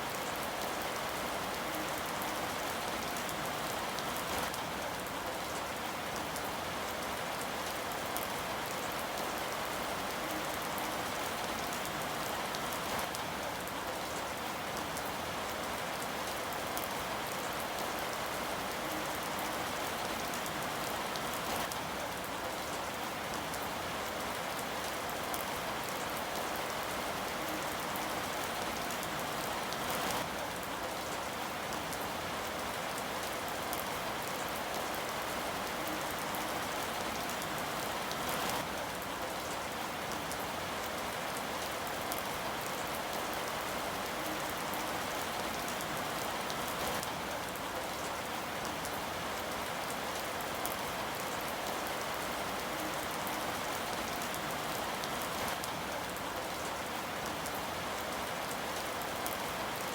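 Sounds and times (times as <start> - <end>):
rain pattering: 0.1 - 59.9.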